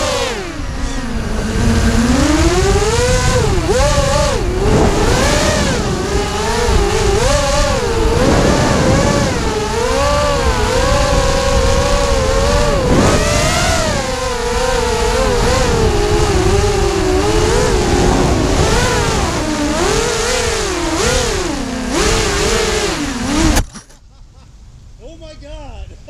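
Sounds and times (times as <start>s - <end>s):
quadcopter motors buzzing: 0.0s - 23.9s.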